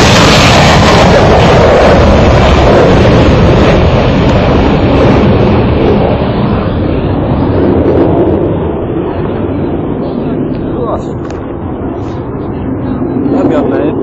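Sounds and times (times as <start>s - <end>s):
jet fighter engines roaring: 0.0s - 14.0s.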